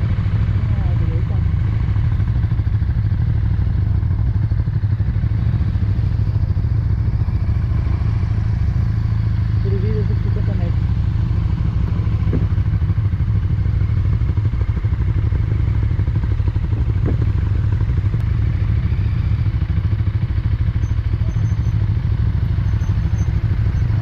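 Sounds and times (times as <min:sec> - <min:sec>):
motorcycle engine pulsing: 0:00.0 - 0:24.0.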